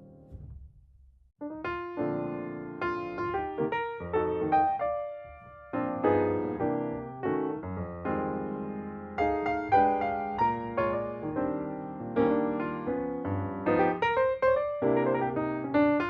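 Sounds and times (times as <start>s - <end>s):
piano chords: 0.0s - 0.8s, 1.4s - 16.0s.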